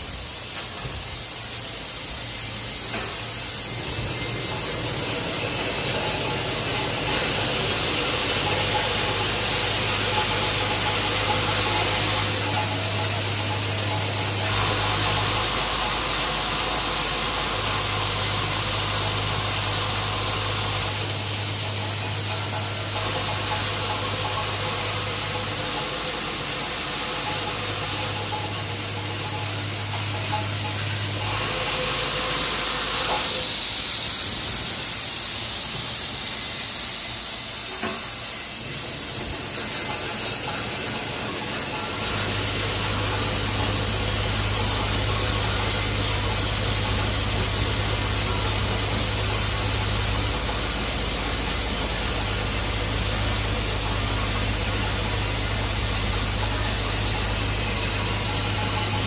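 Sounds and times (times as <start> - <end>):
machine rattling parts hiss: 0.0 - 59.0.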